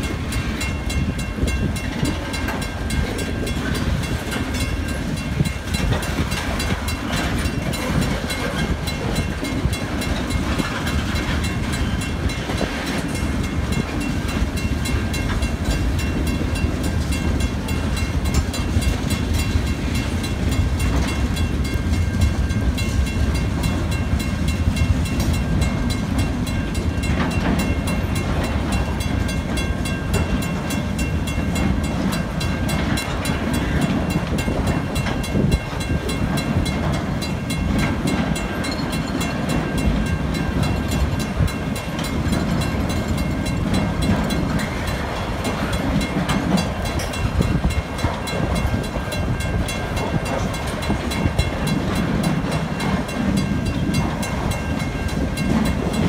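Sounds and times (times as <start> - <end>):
crossing warning bell ringing: 0.0 - 56.0
freight train rumbling: 0.0 - 56.0
wheel clatter on rails: 0.0 - 56.0.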